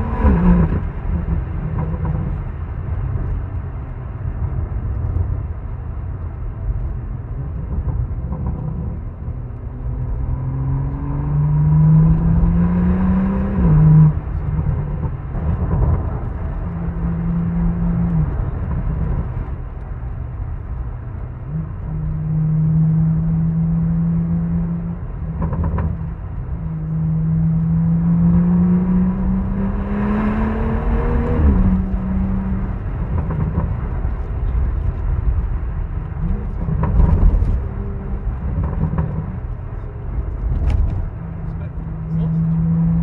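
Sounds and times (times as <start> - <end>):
car engine revving: 0.0 - 3.3, 7.5 - 43.0
wind and road noise: 0.0 - 43.0.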